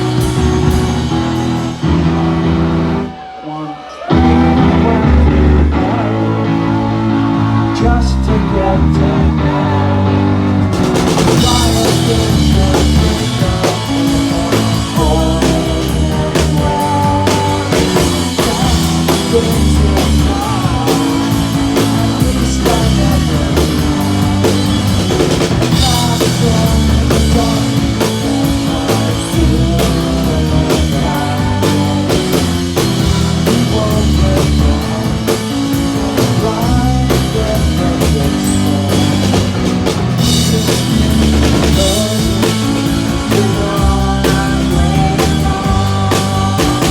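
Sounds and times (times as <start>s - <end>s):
drum kit with cymbals: 0.0s - 3.0s, 10.6s - 46.9s
live rock band playing: 0.0s - 46.9s.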